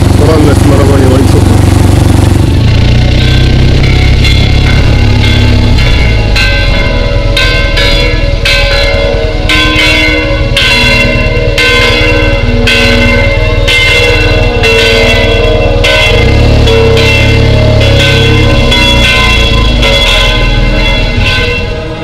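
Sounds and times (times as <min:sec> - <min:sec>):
church bells ringing: 0:00.0 - 0:22.0
steady low rumble: 0:00.0 - 0:22.0.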